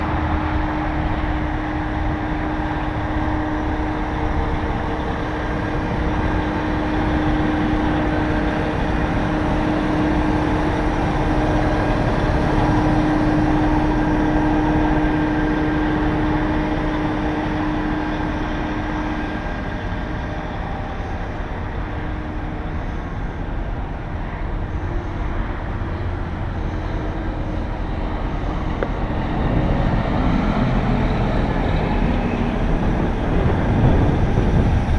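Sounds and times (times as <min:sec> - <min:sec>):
diesel engine running: 0:00.0 - 0:34.9
steady whining tone: 0:00.0 - 0:34.9.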